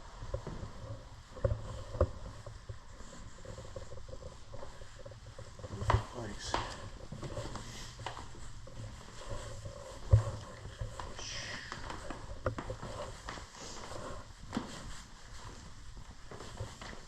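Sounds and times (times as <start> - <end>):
footsteps on hard floor: 0.1 - 17.0.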